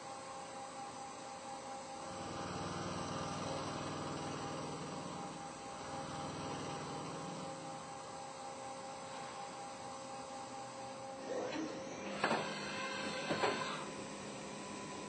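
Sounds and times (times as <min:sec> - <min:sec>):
lathe spindle whine: 0:00.0 - 0:15.0.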